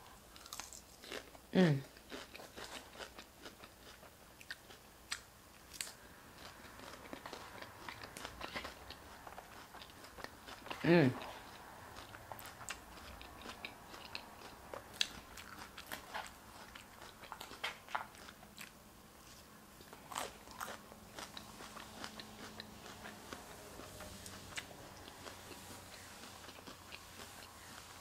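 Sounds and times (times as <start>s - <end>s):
chewing crunches: 0.3s - 18.8s, 19.8s - 23.5s, 24.2s - 28.0s.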